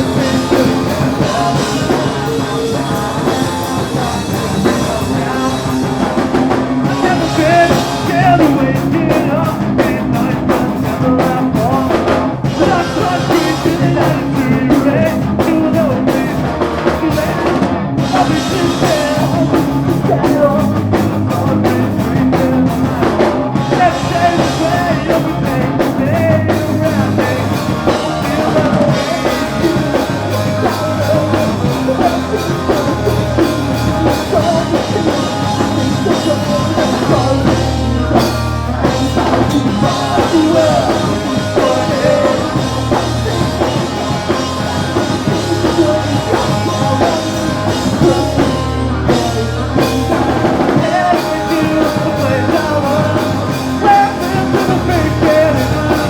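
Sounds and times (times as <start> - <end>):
person singing: 0.0 - 56.0
punk rock band playing: 0.0 - 56.0.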